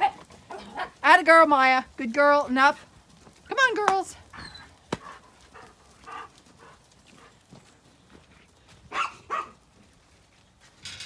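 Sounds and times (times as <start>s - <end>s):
hoof steps on muddy ground: 0.0s - 10.9s.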